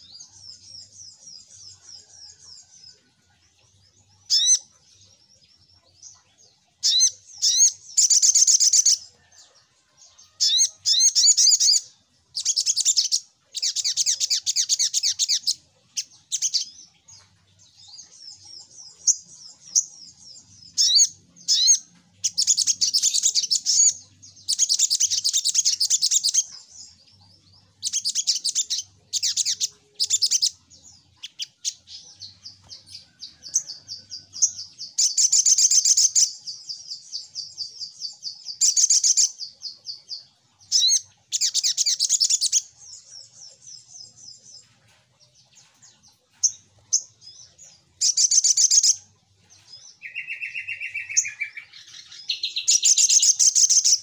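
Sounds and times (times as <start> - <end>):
soft bird twittering: 0.0 - 54.0
sunbird chirping trills: 0.0 - 54.0.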